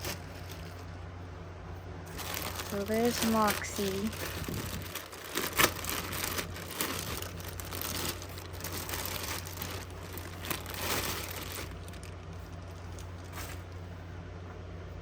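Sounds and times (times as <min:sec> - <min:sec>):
plastic packaging crinkling: 0:00.0 - 0:01.1, 0:02.0 - 0:13.8.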